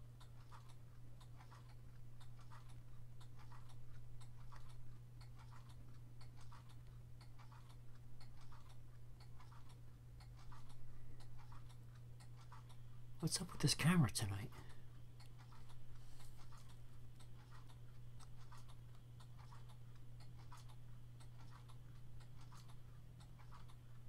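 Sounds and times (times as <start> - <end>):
low steady hum: 0.0 - 24.0
clock ticking: 0.1 - 14.5, 16.4 - 24.0.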